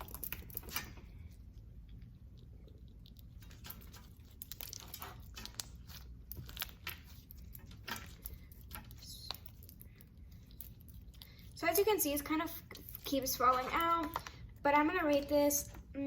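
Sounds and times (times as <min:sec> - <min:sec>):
slime crackling: 0:00.0 - 0:01.3, 0:02.0 - 0:15.3.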